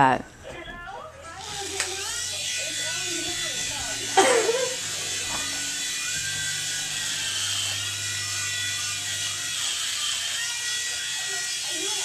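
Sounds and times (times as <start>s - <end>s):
toy helicopter buzzing: 1.3s - 12.0s.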